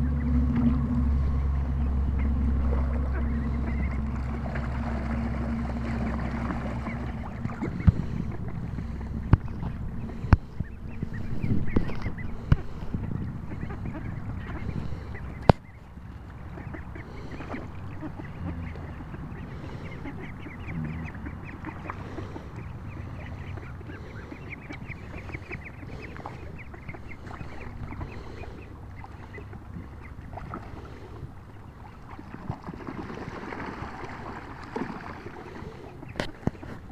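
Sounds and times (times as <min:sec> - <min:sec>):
goslings and ducklings calling: 0:00.0 - 0:36.9
water splashing: 0:00.0 - 0:36.9.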